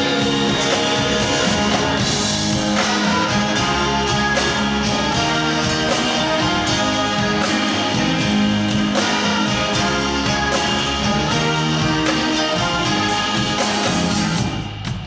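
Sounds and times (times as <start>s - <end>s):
guitar: 0.0s - 15.0s
live band playing: 0.0s - 15.0s
steady drum beat: 0.0s - 15.0s.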